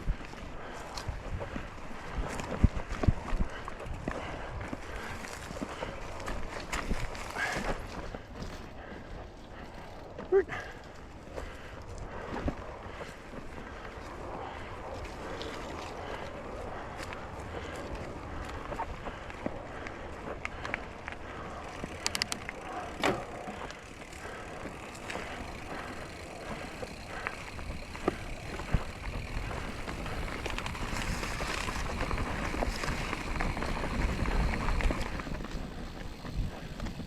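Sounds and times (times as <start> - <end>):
mountain bike tyre noise: 0.0 - 37.0
wheels rattling on rocks: 0.0 - 37.0
wind rumble on microphone: 0.0 - 37.0.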